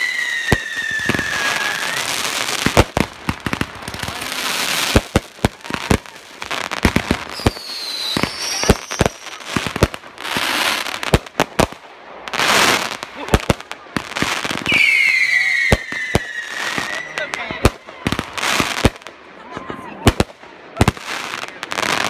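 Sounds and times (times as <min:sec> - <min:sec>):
fireworks crackling hiss: 0:00.0 - 0:19.3
fireworks bangs: 0:00.0 - 0:22.0.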